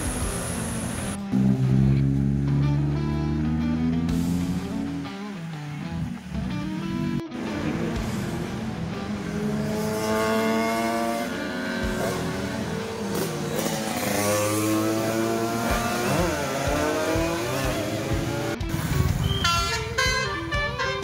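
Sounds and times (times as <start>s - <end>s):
vehicles passing on road: 0.0s - 21.0s.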